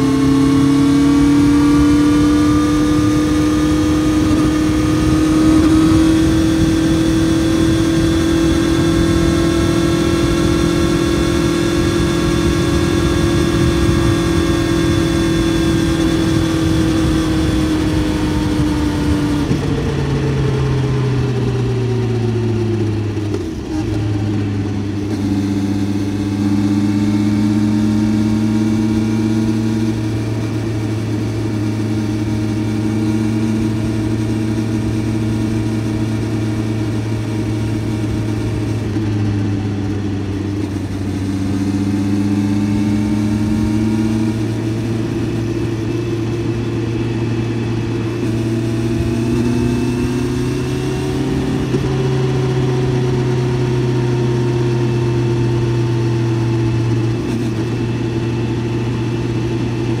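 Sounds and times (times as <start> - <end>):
motorcycle engine under way: 0.0 - 60.0.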